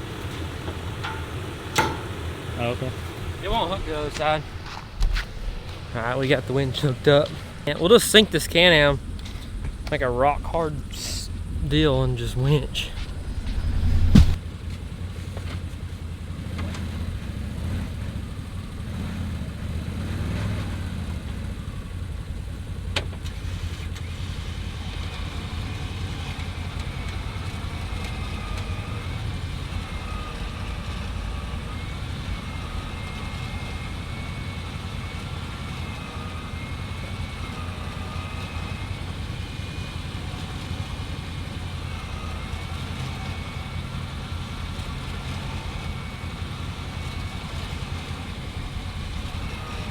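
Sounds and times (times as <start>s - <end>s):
electric winch whining: 0.0s - 49.9s
engine idling: 0.0s - 49.9s.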